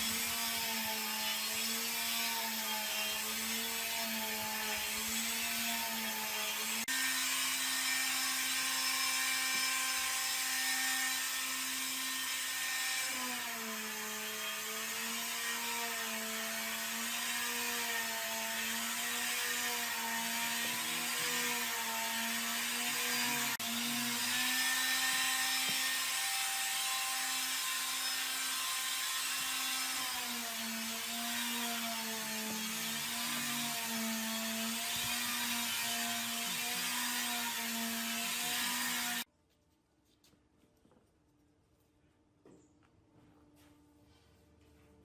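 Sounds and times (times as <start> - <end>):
power tool motor cutting wood: 0.0 - 39.3.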